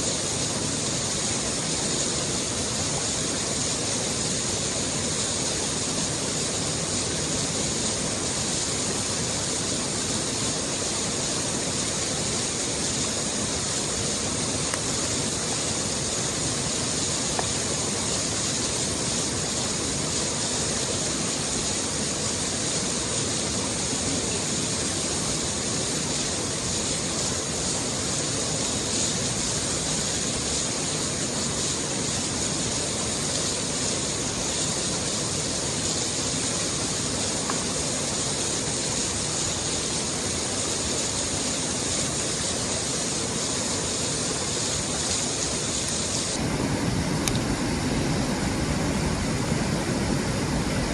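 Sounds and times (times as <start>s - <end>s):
stream flowing: 0.0s - 50.9s.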